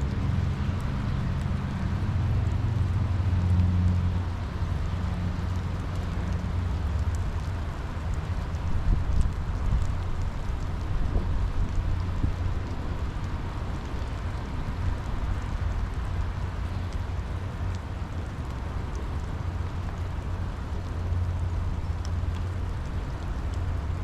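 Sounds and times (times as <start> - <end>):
rain drop ticks: 0.0 - 24.0
steady rainfall: 0.0 - 24.0.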